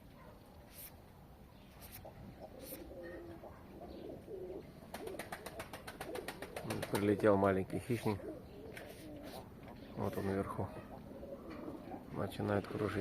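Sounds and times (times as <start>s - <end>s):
pigeons cooing: 2.0s - 13.0s.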